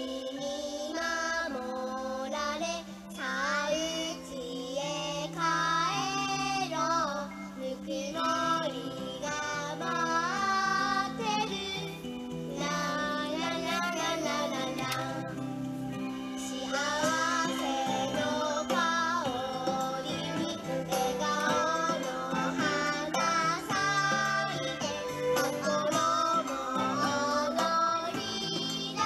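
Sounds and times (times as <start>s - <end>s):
high voice singing: 0.0s - 29.0s
instrumental accompaniment: 0.0s - 29.0s.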